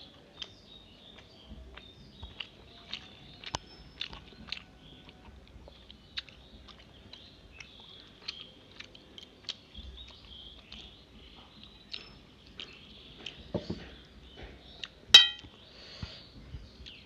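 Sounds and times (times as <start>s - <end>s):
chewing with wet mouth smacks: 0.3s - 15.0s.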